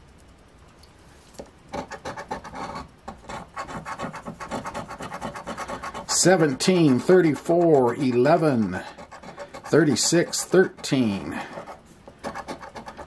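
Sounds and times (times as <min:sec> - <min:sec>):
scratching lottery ticket: 0:01.7 - 0:13.0.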